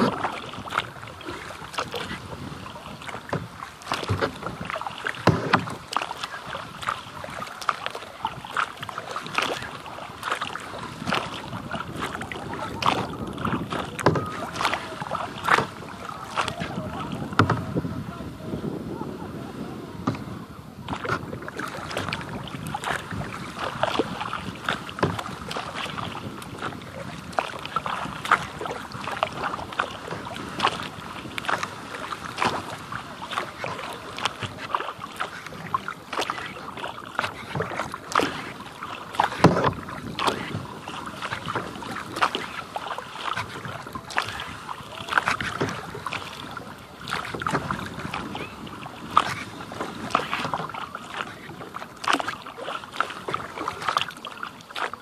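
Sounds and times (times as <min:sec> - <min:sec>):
water splashing around kayak: 0:00.0 - 0:55.0.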